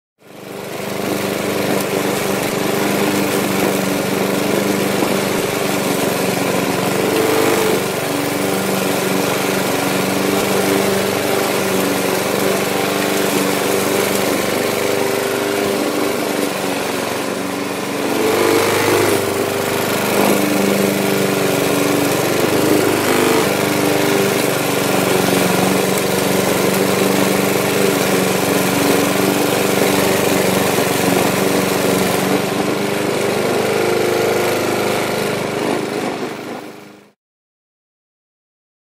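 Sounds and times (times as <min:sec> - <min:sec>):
lawn mower engine droning: 0:00.2 - 0:37.2.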